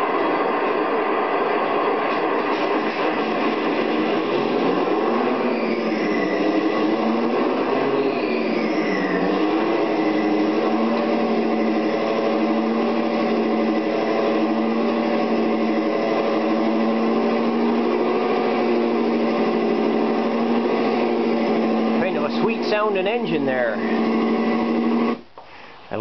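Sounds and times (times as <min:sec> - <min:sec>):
diesel engine running steadily: 0:00.0 - 0:25.2.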